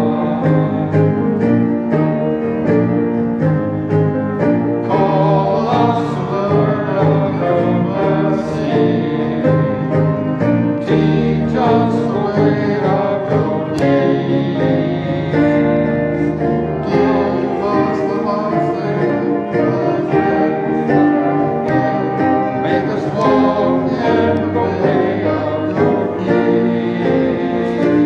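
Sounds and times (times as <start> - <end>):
guitar: 0.0 - 28.0
piano: 0.0 - 28.0.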